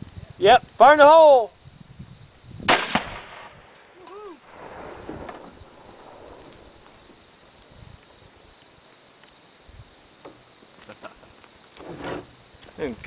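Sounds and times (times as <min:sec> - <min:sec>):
faint outdoor noise: 0:00.0 - 0:13.0
insects trilling: 0:00.0 - 0:13.0.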